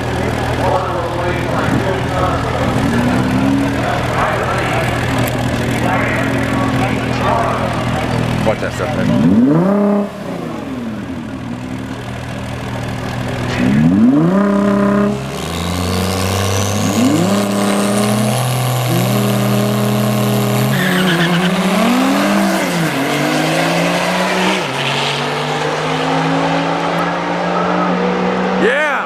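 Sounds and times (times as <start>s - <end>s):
drag racing cars accelerating: 0.0s - 29.0s.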